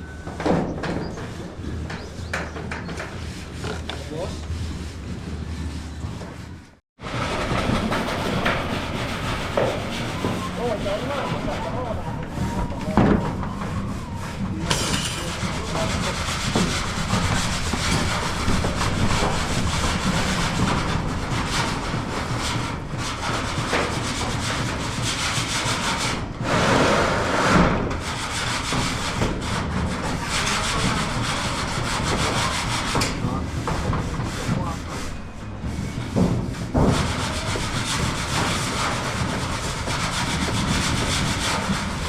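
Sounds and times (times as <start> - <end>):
scraping on rough surface: 0.1 - 42.0.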